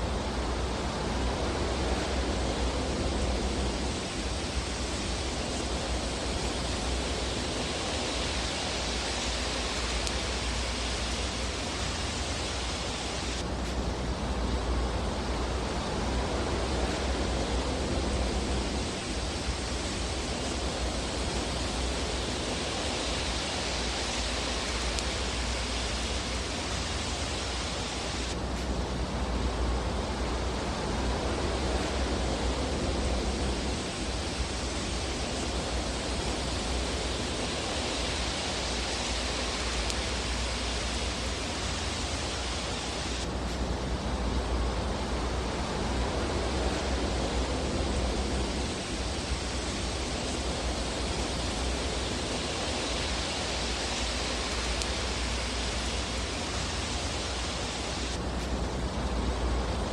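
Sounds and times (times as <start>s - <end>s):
fire rushing hiss: 0.0s - 59.9s.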